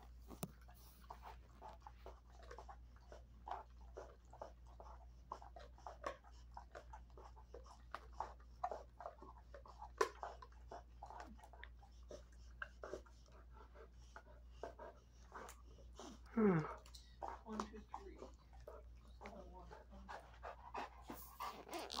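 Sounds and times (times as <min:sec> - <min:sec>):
dog chewing crunchily: 0:00.0 - 0:22.0.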